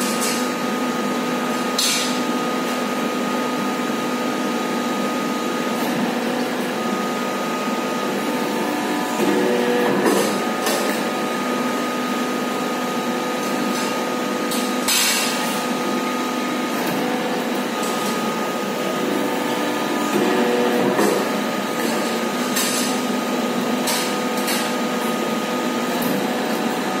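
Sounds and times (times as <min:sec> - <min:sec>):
hydraulic motor and pump humming: 0:00.0 - 0:27.0.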